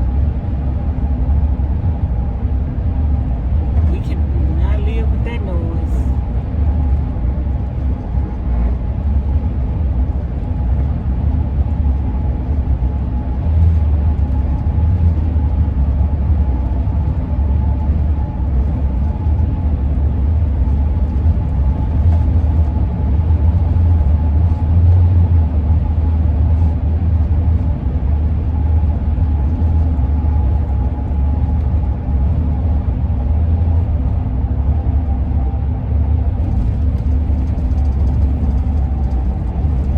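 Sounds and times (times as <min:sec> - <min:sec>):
van road and engine rumble: 0:00.0 - 0:39.9.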